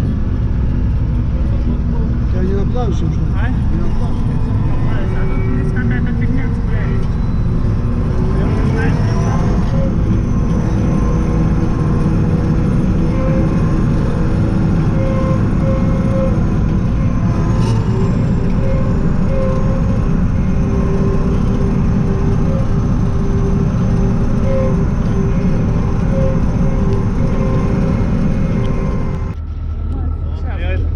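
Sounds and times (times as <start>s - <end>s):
faint whining tones: 0.0s - 30.9s
tractor diesel engine running: 0.0s - 30.9s.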